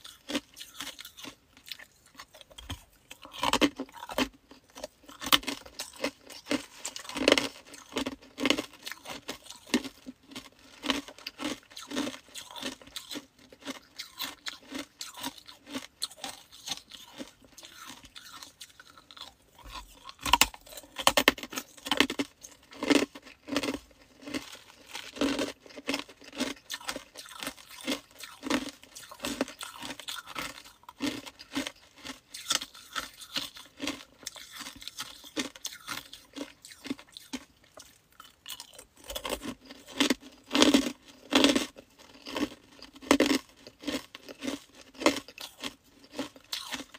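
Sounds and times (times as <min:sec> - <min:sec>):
person crunching ice: 0:00.0 - 0:46.9.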